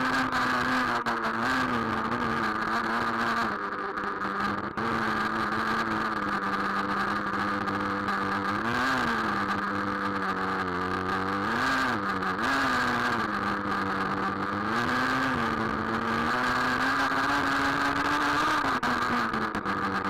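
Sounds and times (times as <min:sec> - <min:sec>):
engine throttle blips: 0:00.0 - 0:20.0
small nitro engine running: 0:00.0 - 0:20.0.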